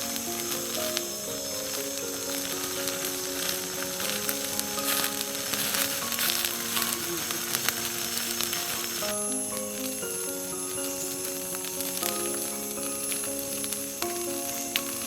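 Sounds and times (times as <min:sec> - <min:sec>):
campfire crackling and popping: 0:00.0 - 0:15.0
soft melodic background music: 0:00.0 - 0:15.0.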